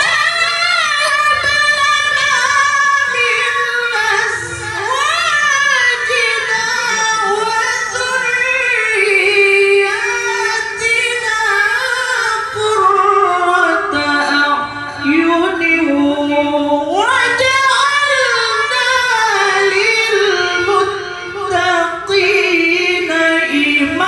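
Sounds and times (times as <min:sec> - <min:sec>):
young man reciting melodically: 0:00.0 - 0:24.0.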